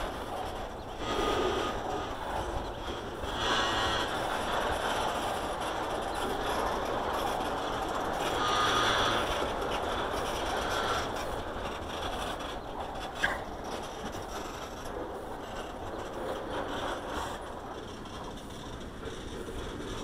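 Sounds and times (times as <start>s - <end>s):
freight train wheels rumbling: 0.0s - 20.0s
train wheel squeals: 0.0s - 20.0s.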